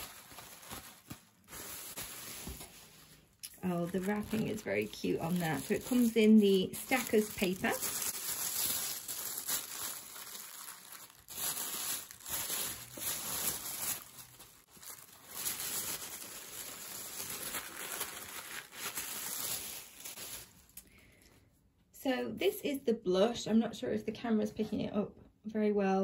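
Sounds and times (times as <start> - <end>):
tissue paper crinkling: 0.0 - 20.8.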